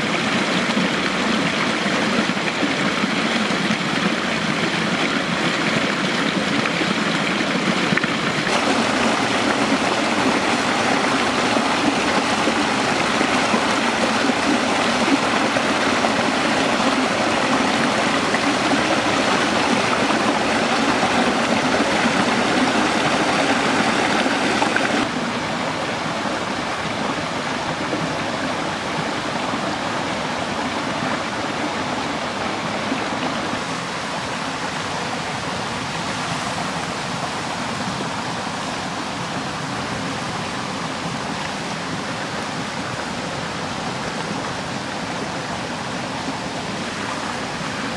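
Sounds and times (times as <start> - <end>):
running water rushing: 0.0 - 47.9.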